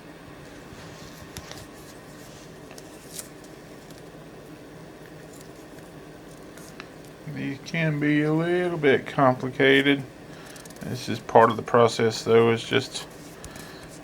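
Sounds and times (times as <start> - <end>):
room hiss: 0.0 - 14.0.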